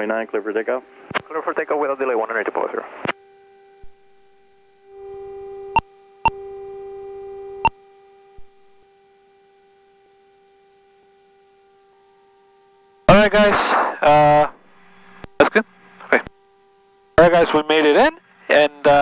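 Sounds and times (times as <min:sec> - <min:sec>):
steady electrical tone: 0:00.0 - 0:19.0.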